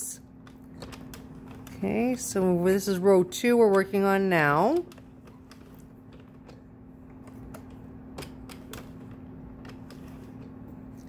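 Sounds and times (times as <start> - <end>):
knitting machine clicking: 0.4 - 10.5.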